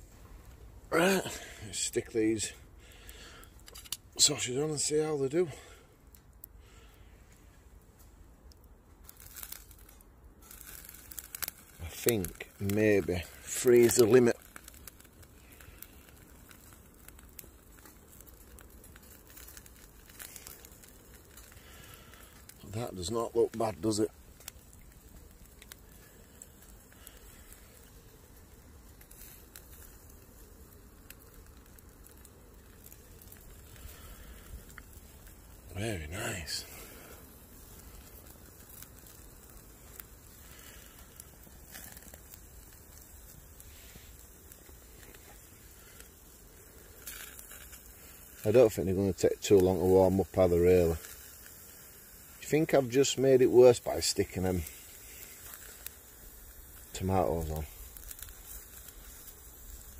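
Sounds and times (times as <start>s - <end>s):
small wood fire crackling: 0.0s - 59.9s.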